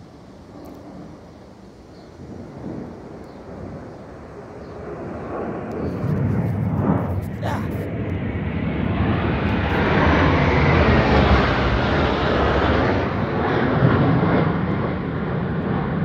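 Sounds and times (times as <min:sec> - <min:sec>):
jet fighters roaring overhead: 0:00.0 - 0:16.0.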